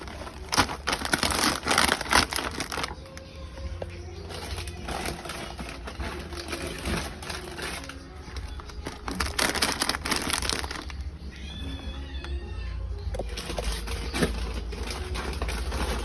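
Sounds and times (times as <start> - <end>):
plastic packaging crinkling: 0.0 - 12.3, 13.2 - 16.0.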